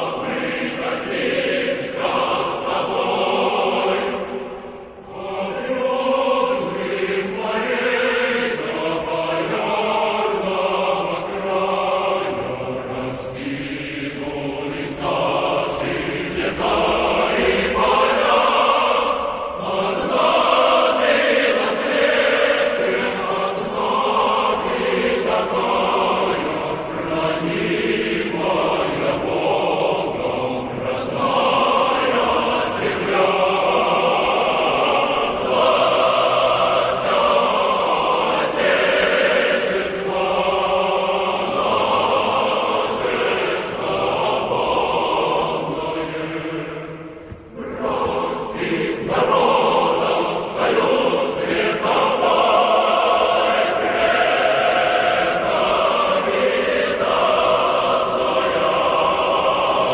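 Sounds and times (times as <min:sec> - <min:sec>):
choir chanting: 0:00.0 - 0:59.9.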